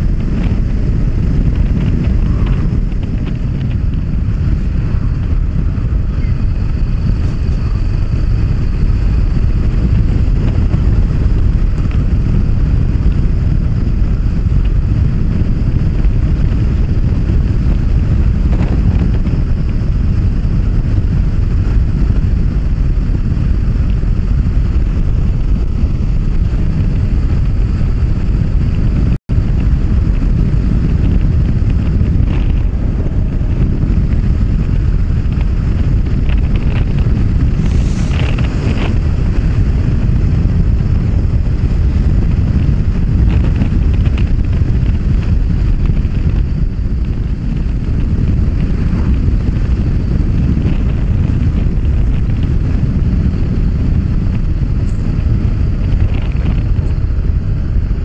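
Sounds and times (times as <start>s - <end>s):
motorcycle running: 0.0s - 58.0s
wind buffeting microphone: 0.0s - 58.0s.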